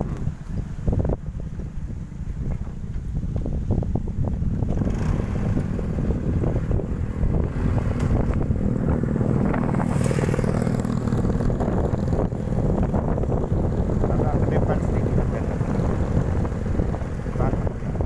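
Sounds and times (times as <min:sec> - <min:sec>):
strong wind on microphone: 0:00.0 - 0:18.0.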